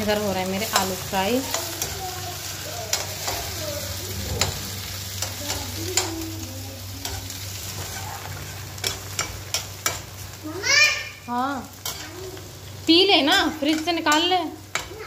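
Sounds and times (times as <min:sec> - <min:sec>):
potatoes sizzling in oil: 0:00.0 - 0:15.0.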